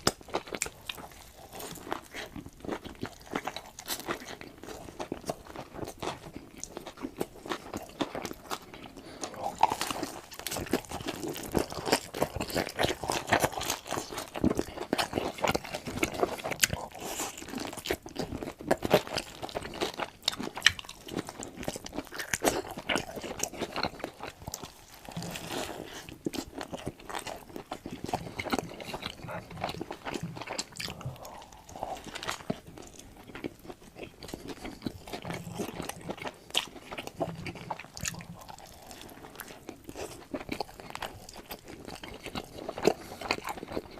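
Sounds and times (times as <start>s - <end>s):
crunchy bites and chewing: 0.0s - 43.9s.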